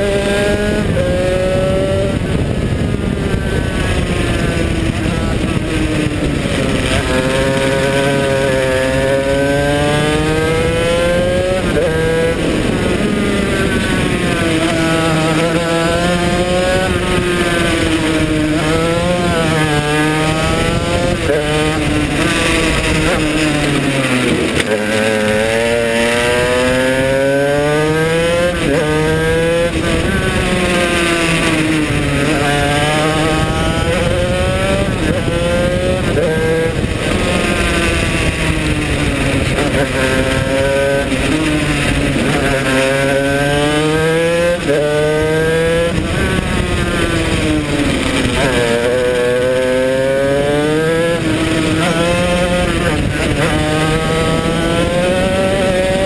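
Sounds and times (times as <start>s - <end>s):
two-stroke kart engine racing: 0.0s - 56.0s.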